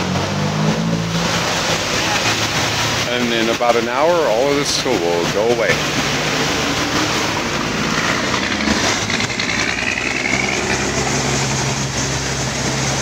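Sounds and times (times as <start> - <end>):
tyres through floodwater: 0.0 - 13.0
vehicle engines running: 0.0 - 13.0.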